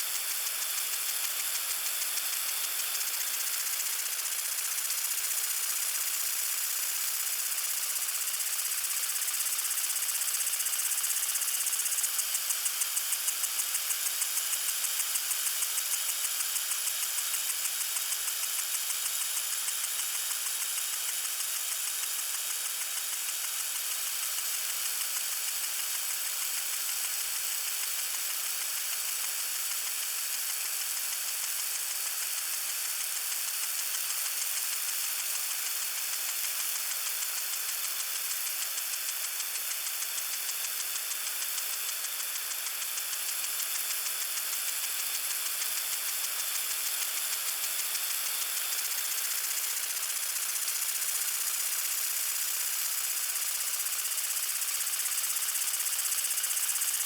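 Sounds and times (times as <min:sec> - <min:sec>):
lawn sprinkler spraying water: 0:00.0 - 0:57.0.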